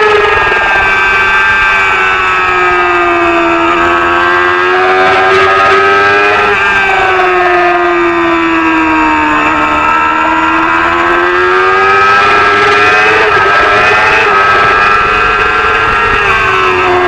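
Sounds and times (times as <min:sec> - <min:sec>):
racing motorcycle engine revving: 0:00.0 - 0:17.0.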